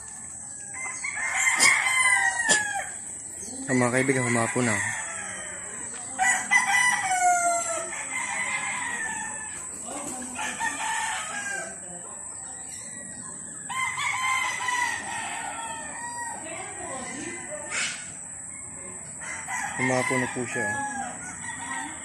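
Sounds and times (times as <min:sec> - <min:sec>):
roosters crowing: 0:00.0 - 0:22.0.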